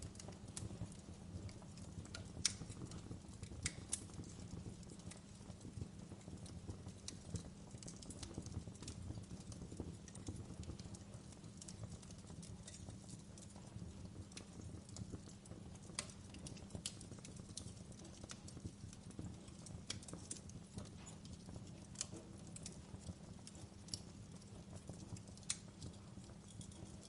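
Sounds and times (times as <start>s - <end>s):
fire crackling and popping: 0.0s - 27.0s
fire low rumble: 0.0s - 27.0s.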